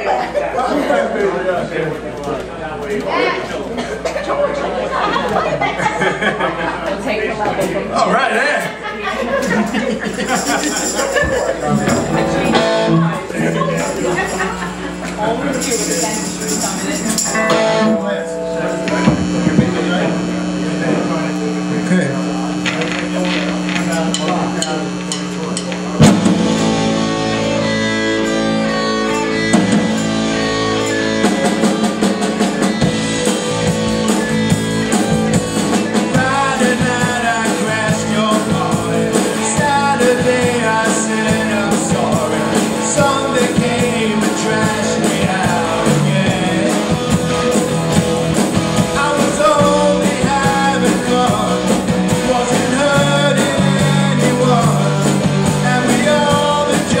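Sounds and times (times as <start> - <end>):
rock band playing: 9.2 - 57.0
electric guitar chords: 10.0 - 57.0.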